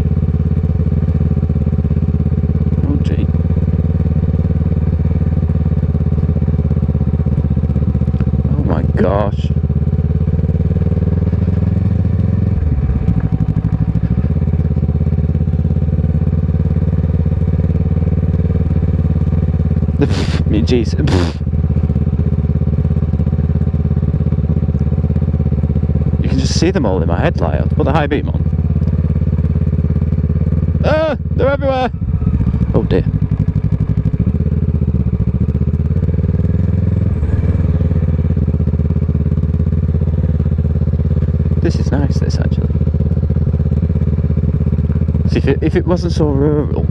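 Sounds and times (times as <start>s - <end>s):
engine knock: 0.0s - 46.9s
motorcycle engine running: 0.0s - 46.9s.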